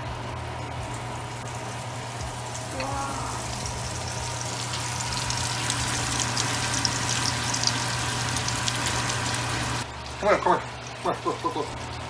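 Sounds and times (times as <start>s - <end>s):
deep frying sizzle with pops: 0.7s - 12.0s.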